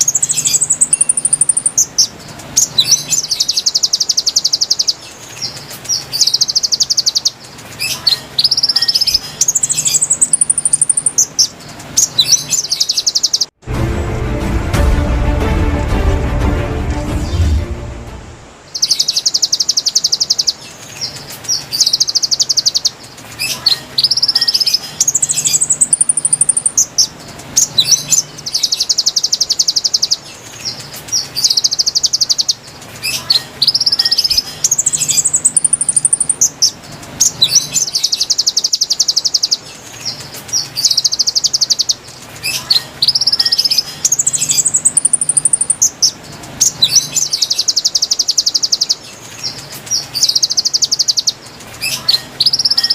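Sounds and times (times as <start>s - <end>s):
recorded bird song: 0.0s - 13.6s, 16.9s - 52.9s.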